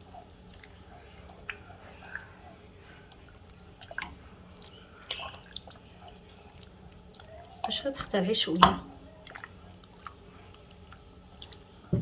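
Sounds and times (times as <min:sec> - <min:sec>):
low steady hum: 0:00.0 - 0:12.0
soft wet stirring sounds: 0:00.0 - 0:12.0.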